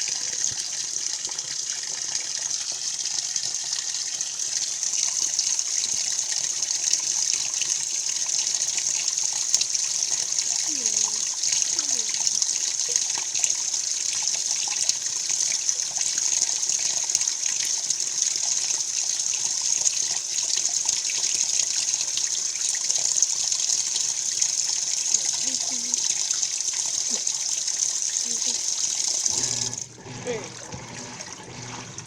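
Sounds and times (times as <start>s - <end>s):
washing machine filling with water: 0.0s - 32.0s.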